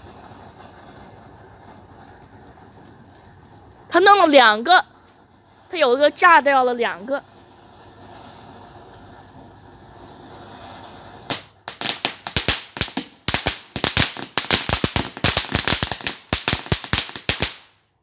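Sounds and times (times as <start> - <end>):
firework crackling: 0.0 - 18.0.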